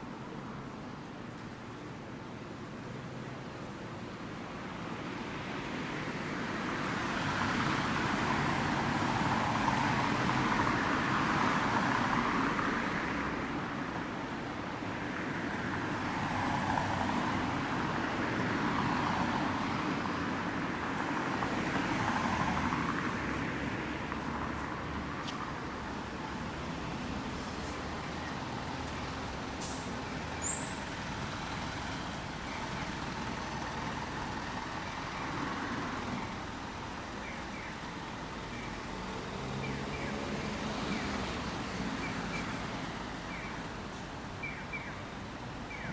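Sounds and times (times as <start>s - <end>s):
cars passing: 5.2s - 45.9s.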